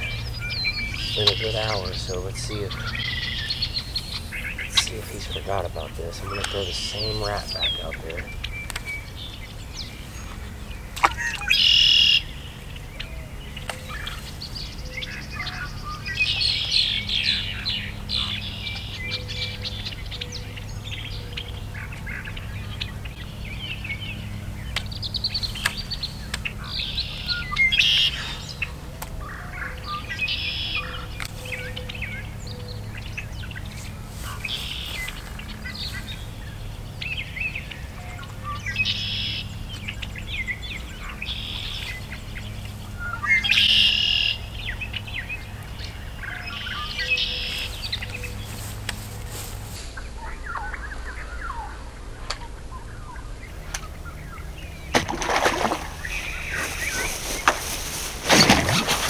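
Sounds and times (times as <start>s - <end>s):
birds chirping and calling: 0.0s - 59.0s
steady low hum: 0.0s - 59.0s.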